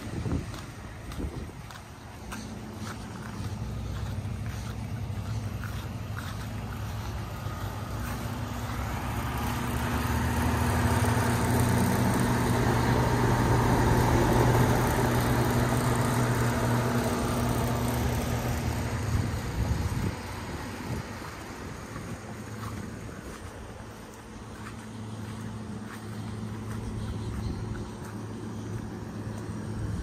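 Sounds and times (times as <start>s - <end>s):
air conditioner unit humming: 0.0s - 30.0s.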